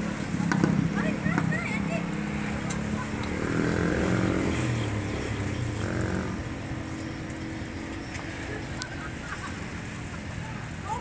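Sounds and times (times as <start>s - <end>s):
motorcycle passing by: 0.0s - 11.0s.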